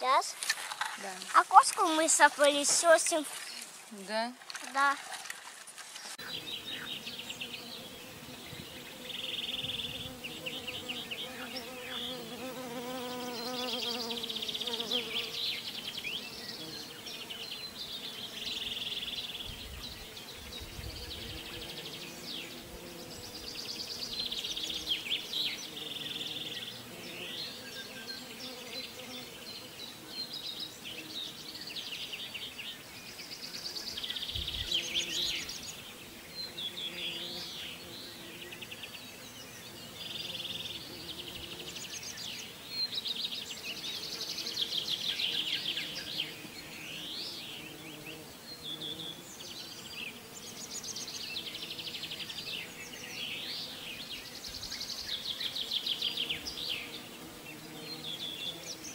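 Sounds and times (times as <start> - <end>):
flying insect buzzing: 4.5 - 58.9
small birds singing trills: 6.0 - 58.9.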